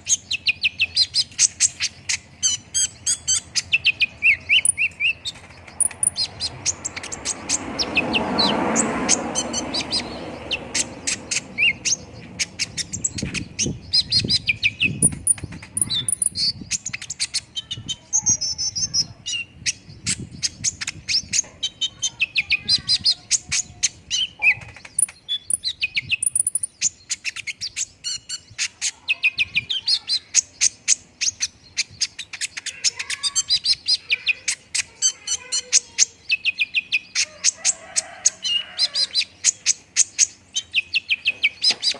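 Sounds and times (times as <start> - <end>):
bird singing rapid chirps: 0.0 - 41.9.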